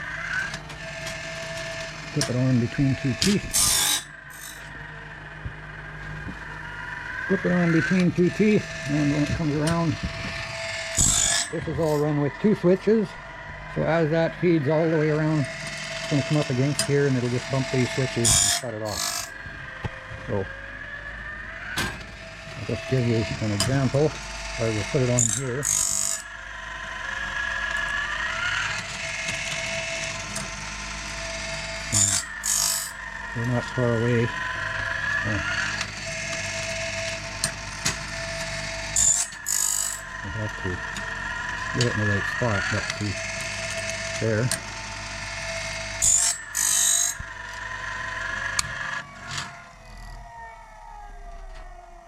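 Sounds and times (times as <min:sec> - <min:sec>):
blade sharpener humming: 0:00.0 - 0:51.8
high-pitched whine: 0:00.0 - 0:52.0.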